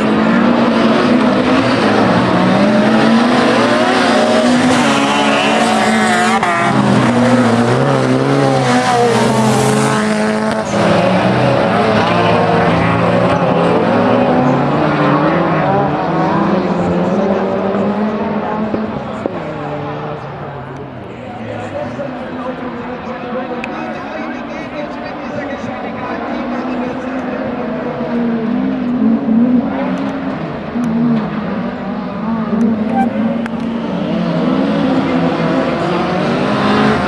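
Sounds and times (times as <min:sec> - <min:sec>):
racing car engines revving: 0:00.0 - 0:37.0.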